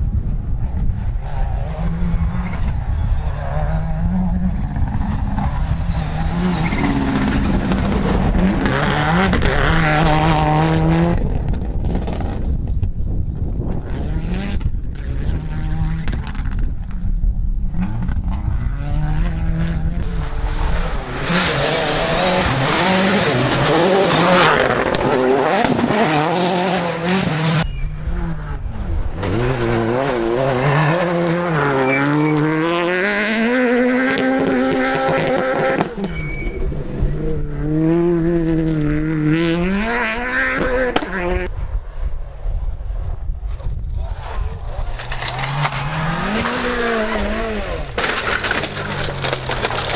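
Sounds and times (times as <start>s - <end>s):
rally car engines revving: 0.4s - 12.5s, 13.7s - 41.5s, 43.0s - 49.9s.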